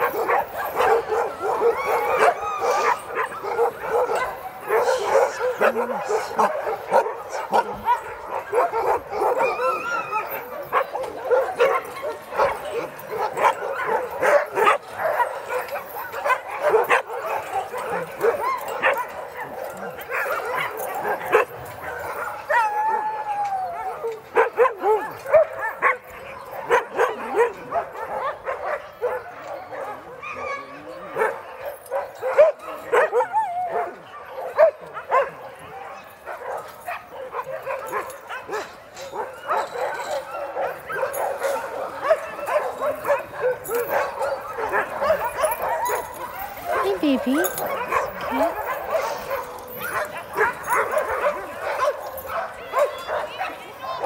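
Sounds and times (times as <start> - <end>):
dogs barking and yipping: 0.0 - 54.0.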